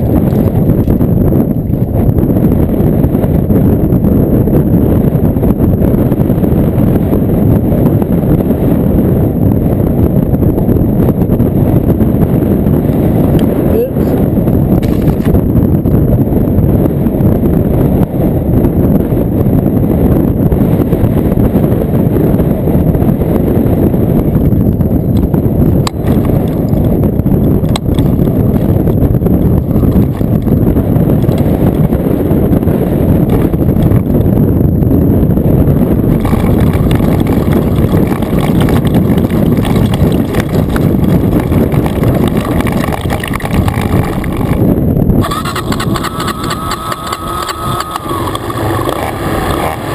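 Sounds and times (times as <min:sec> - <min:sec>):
dirt bike engine running: 0:00.0 - 0:49.9
wind buffeting microphone: 0:00.0 - 0:49.9.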